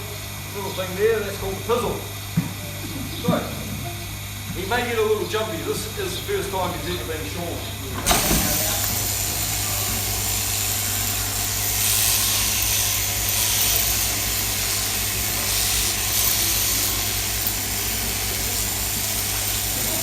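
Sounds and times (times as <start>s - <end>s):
electric shearing handpiece buzzing: 0.0s - 20.0s.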